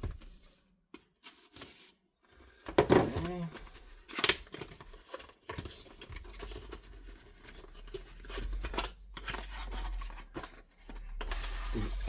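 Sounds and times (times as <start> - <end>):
packaging rustling and tearing: 1.2 - 12.0.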